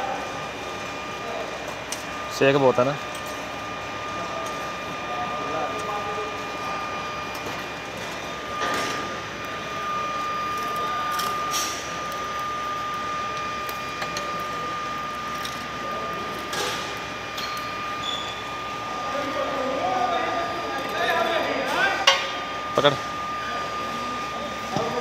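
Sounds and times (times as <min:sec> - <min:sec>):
foundry machinery running: 0:00.0 - 0:25.0
high-pitched whine: 0:04.0 - 0:25.0.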